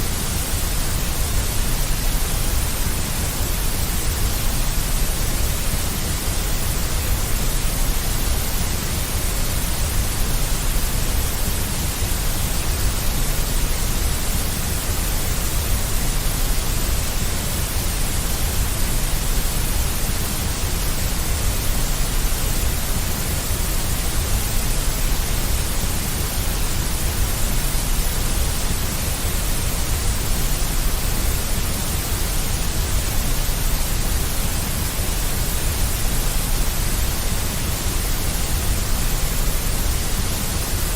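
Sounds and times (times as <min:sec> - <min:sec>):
synthetic white noise: 0:00.0 - 0:40.9.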